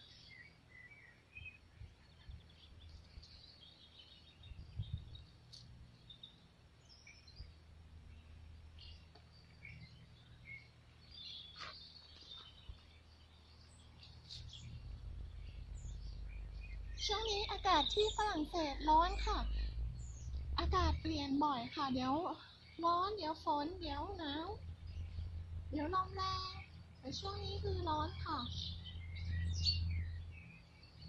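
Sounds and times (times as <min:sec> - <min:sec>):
birds chirping: 0:00.0 - 0:31.0
low steady rumble: 0:00.0 - 0:31.0.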